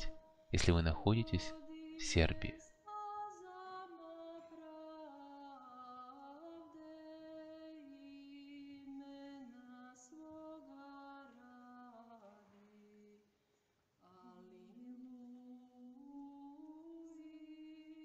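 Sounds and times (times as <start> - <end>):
person singing slow chant: 0.0 - 13.2, 14.0 - 18.0.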